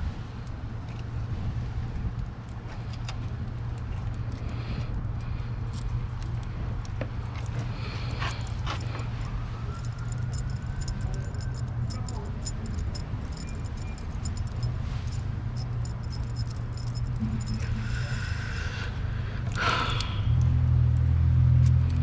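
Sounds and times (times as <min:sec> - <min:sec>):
steady low hum: 0:00.0 - 0:22.0
metal parts clinking: 0:02.3 - 0:20.2.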